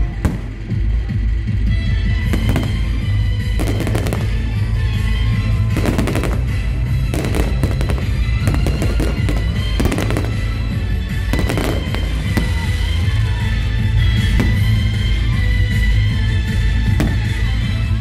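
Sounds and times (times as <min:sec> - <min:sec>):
fireworks bangs and crackles: 0:00.0 - 0:18.0
music with heavy bass: 0:00.0 - 0:18.0.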